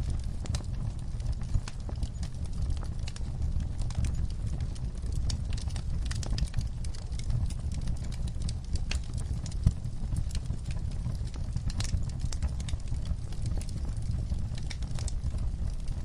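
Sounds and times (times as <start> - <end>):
fire pops and snaps: 0.0 - 16.0
low rumble of flames: 0.0 - 16.0.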